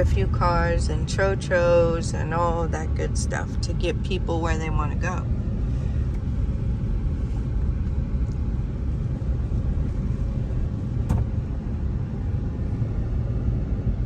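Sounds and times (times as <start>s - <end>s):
car driving on rough road: 0.0s - 14.0s.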